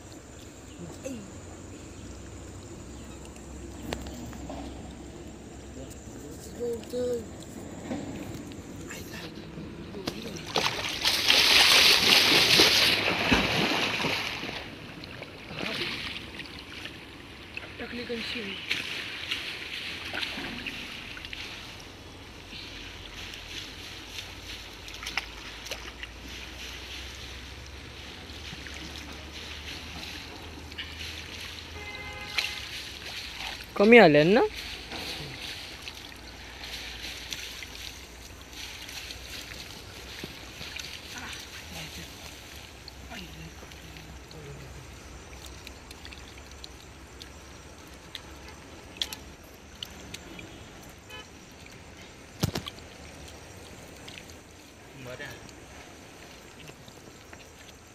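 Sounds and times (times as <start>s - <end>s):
muddy water splashing: 0.0s - 57.9s.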